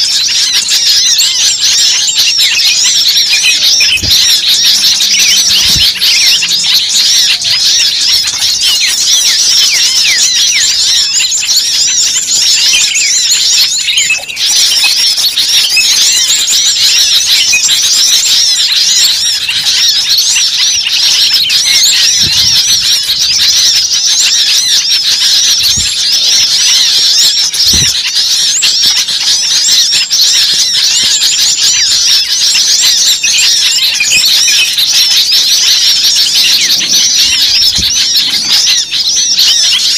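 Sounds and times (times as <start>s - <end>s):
many small birds chirping: 0.0s - 39.9s.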